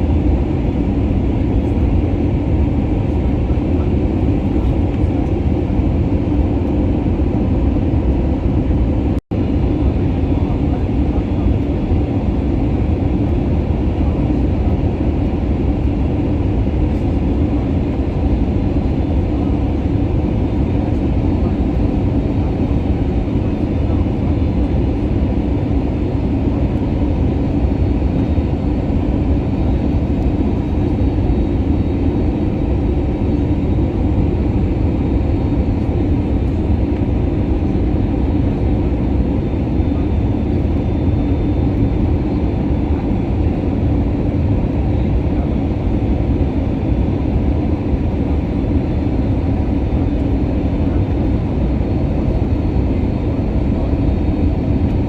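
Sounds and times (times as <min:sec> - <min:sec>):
airliner cabin engine drone: 0:00.0 - 0:55.0.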